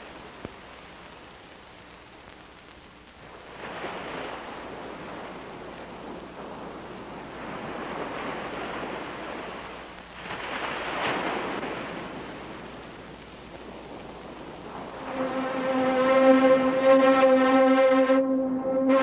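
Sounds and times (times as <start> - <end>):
waves breaking: 3.2 - 19.0.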